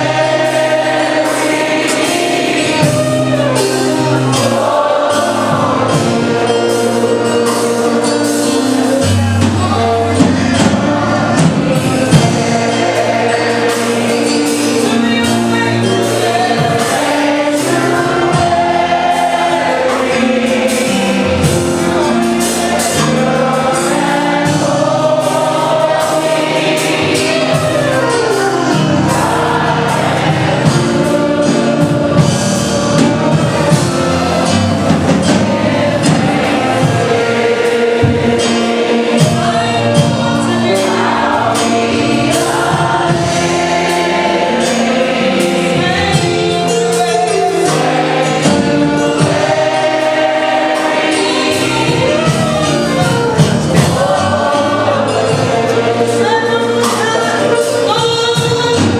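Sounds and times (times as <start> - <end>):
bass line: 0.0 - 46.8, 47.4 - 57.6
gospel choir singing: 0.0 - 58.9
steady beat: 0.0 - 58.9.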